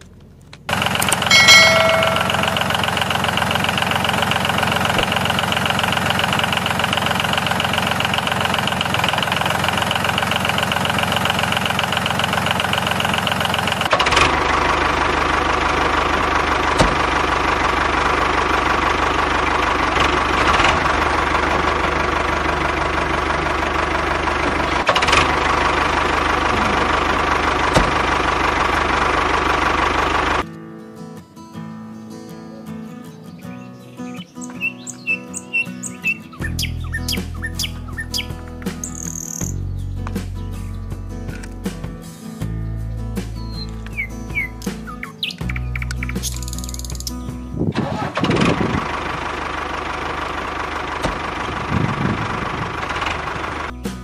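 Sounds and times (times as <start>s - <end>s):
tractor engine running: 0.0s - 30.5s, 34.4s - 54.0s.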